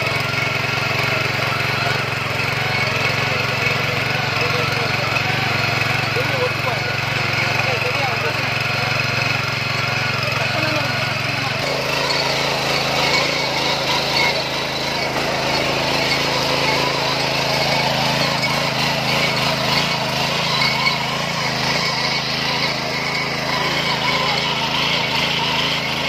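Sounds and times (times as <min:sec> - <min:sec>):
petrol engine running under load: 0:00.0 - 0:26.0
tines churning through dry soil: 0:00.0 - 0:26.0.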